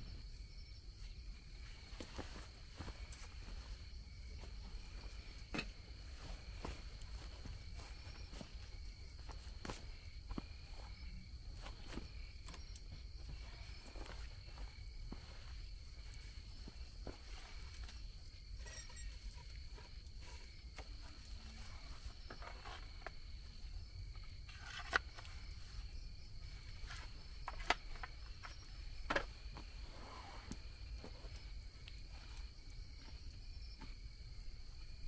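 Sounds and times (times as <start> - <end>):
insect trill: 0.0 - 35.0.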